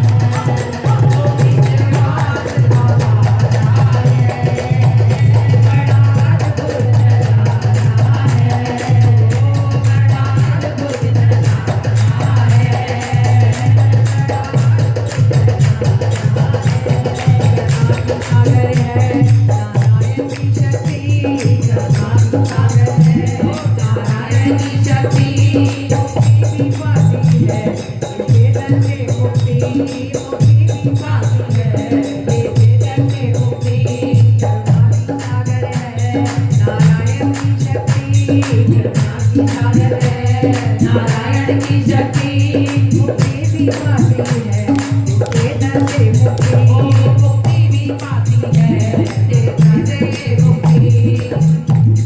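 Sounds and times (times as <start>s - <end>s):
devotional music: 0.0s - 52.0s
jingling rattle percussion: 0.0s - 52.0s.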